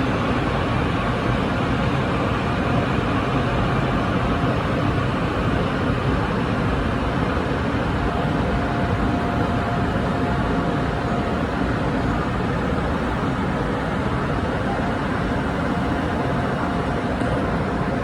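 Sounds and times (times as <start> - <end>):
electric train low rumble: 0.0 - 18.0.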